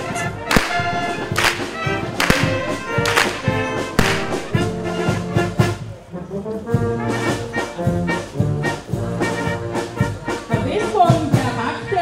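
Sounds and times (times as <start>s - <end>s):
instrumental folk music: 0.0s - 12.0s.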